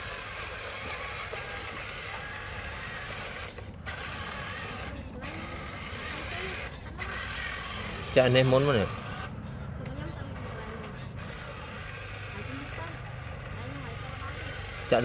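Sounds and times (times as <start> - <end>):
toy truck motor and gears whirring: 0.0 - 15.0.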